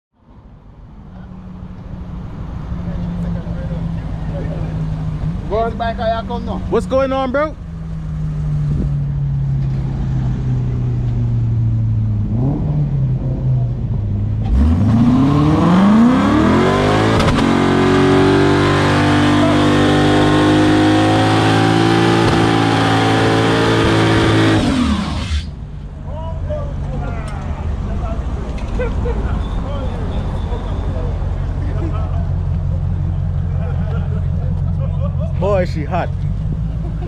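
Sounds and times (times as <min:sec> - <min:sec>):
car engine idling and revving: 0:00.2 - 0:37.0.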